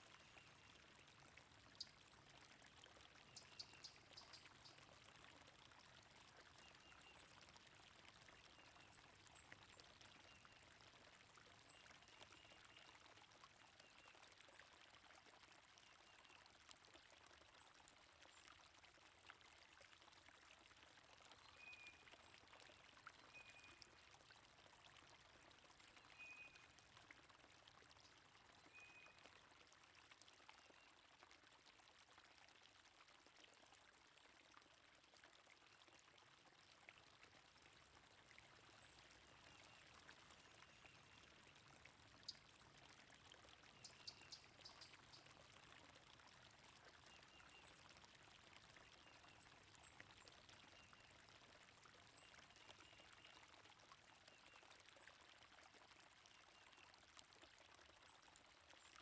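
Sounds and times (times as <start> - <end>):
running stream water: 0.0 - 59.0.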